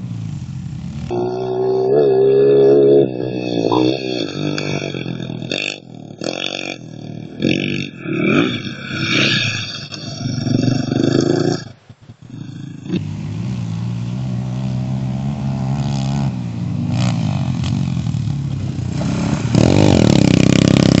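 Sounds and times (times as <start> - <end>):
dirt bike engines revving: 0.0 - 21.0
dirt bike passing close: 0.0 - 21.0.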